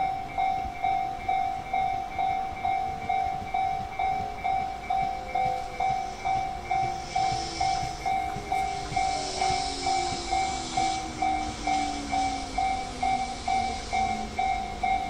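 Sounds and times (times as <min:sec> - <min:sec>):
electric train motor whine: 0:00.0 - 0:15.0
level crossing bell ringing: 0:00.0 - 0:15.0
wheels hissing on rails: 0:00.0 - 0:15.0.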